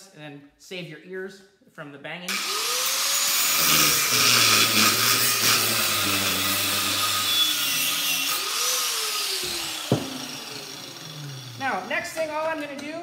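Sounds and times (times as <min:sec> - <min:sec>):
angle grinder grinding steel: 0:02.3 - 0:13.0.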